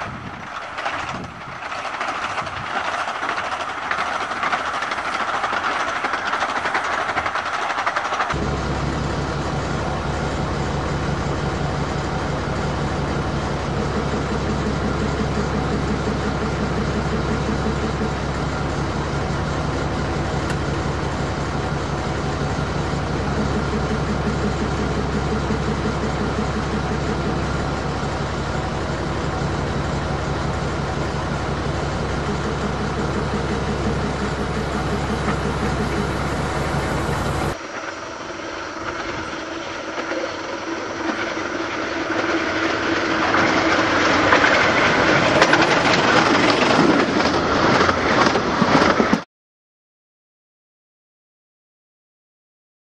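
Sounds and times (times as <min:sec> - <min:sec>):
diesel locomotive engine idling: 0:00.0 - 0:49.0
train running noise: 0:00.0 - 0:49.2.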